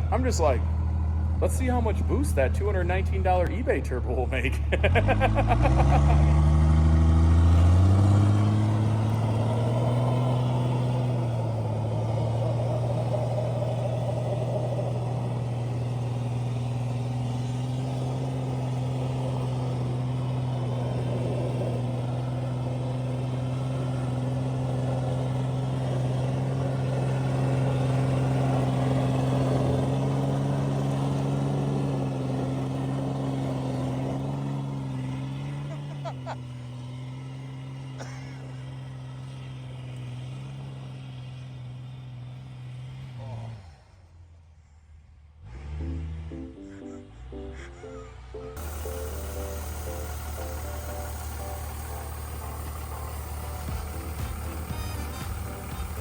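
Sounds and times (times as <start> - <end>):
truck engine revving: 0.0 - 56.0
wheels spinning in snow: 4.3 - 46.0, 48.0 - 56.0.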